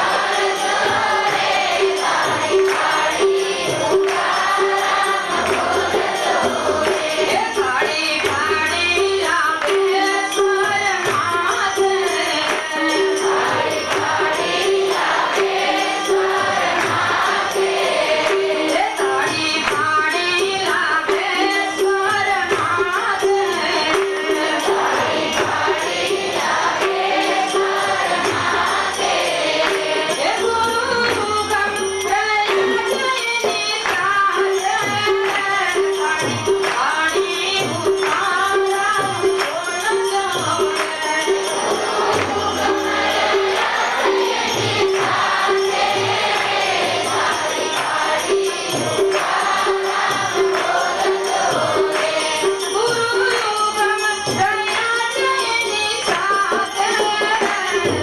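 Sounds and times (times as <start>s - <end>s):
drum beat: 0.0s - 55.4s
devotional song singing: 0.0s - 58.0s
metal hand percussion: 0.0s - 58.0s.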